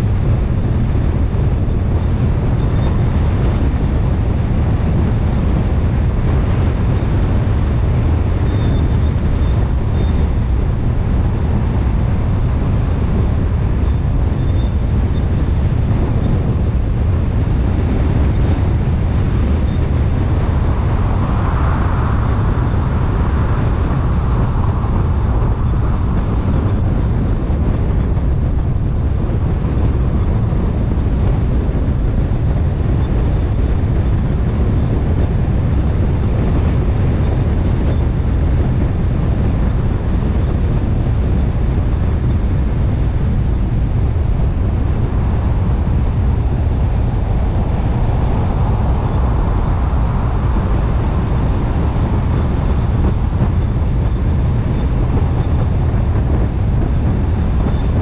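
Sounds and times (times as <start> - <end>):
road and wind noise from car: 0.0 - 58.0.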